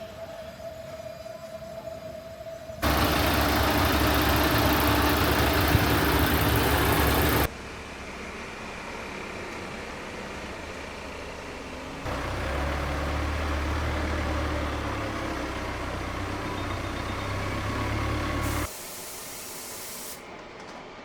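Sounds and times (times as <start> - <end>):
machinery humming and hissing: 0.0 - 21.0.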